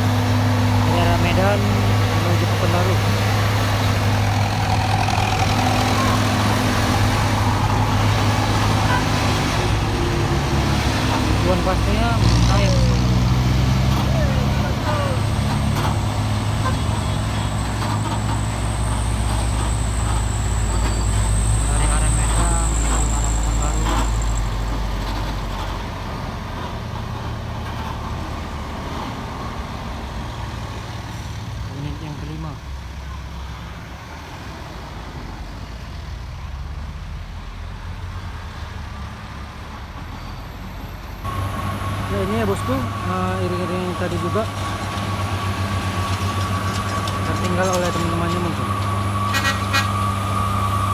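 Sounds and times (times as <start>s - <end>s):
heavy truck engine humming: 0.0s - 50.9s.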